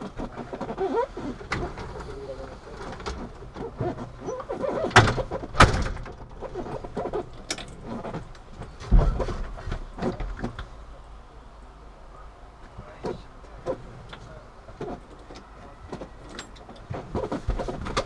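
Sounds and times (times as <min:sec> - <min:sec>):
knocks and clunks of truck controls: 0:00.0 - 0:10.7, 0:12.8 - 0:18.0.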